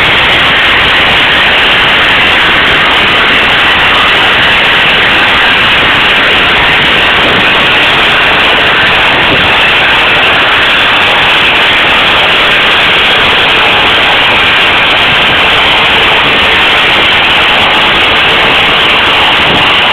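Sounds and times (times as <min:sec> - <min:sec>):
tyres spinning on rollers: 0:00.0 - 0:19.9.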